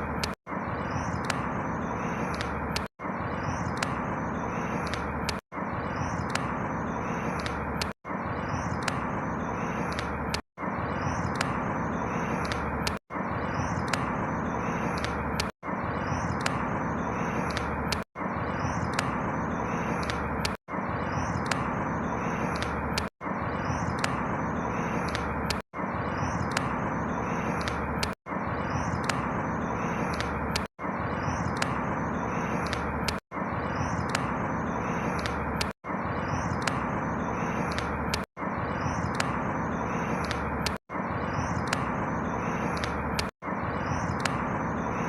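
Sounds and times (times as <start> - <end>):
steady rushing background: 0.0 - 45.0.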